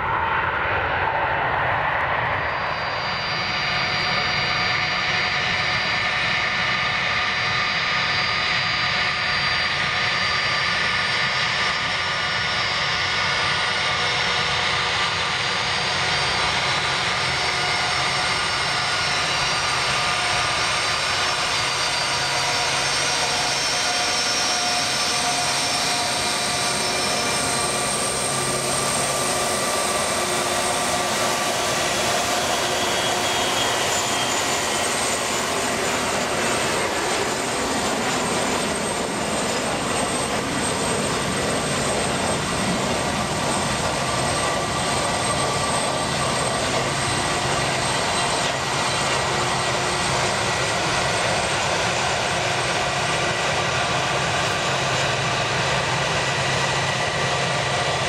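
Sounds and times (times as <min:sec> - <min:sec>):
jet engines whining at taxi: 0:00.0 - 0:58.0.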